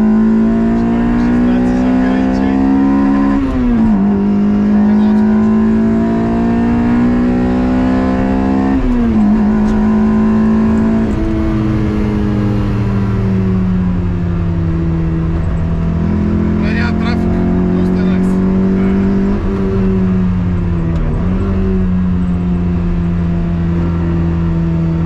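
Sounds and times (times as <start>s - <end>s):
car engine accelerating through gears: 0.0s - 25.0s.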